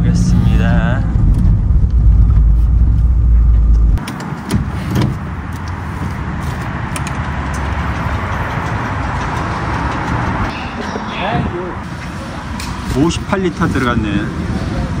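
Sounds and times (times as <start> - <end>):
van engine rumbling: 0.0 - 15.0.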